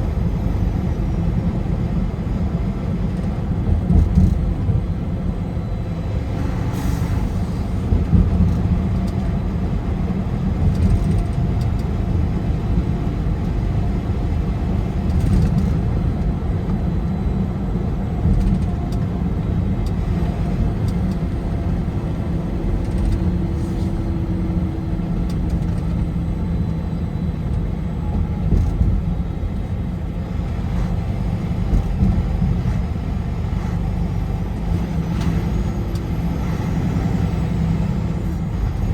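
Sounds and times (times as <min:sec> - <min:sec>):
car engine and tyre road noise: 0:00.0 - 0:38.9.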